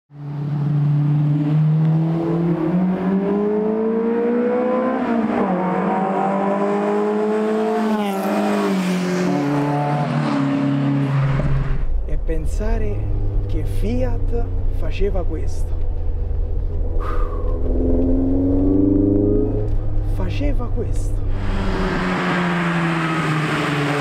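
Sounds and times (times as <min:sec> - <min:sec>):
racing car engines at full throttle: 0:00.2 - 0:24.0.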